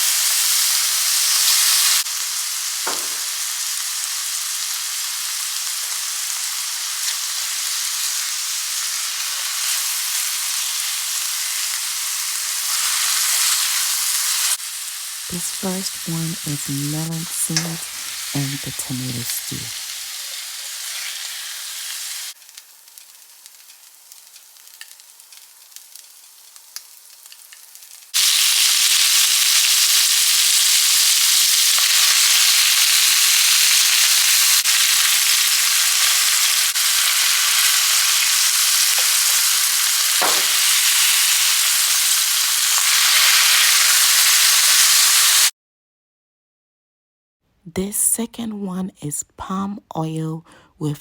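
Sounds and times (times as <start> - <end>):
stew frying in oil: 0.0 - 45.5.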